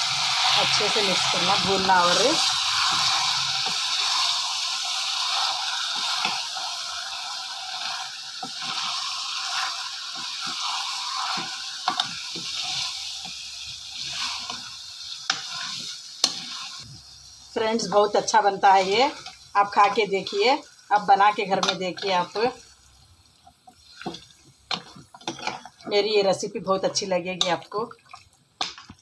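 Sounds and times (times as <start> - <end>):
spatula scraping a pan: 0.0 - 17.0, 17.7 - 22.7, 23.4 - 26.0
meat sizzling in a pan: 0.0 - 29.0.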